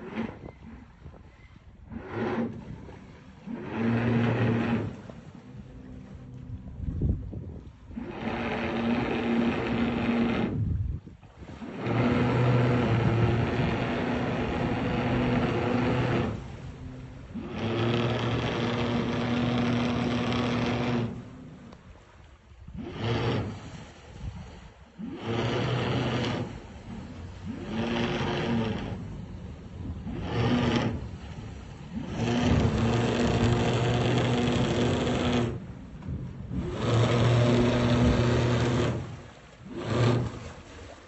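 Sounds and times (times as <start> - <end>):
motor humming: 1.9 - 10.8, 11.5 - 21.8, 22.7 - 23.6, 25.0 - 40.7.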